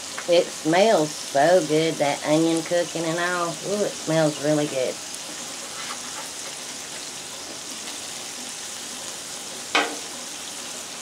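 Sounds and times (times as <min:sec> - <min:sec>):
burger sizzling on a griddle: 0:00.0 - 0:11.0
spatula on griddle: 0:00.0 - 0:11.0.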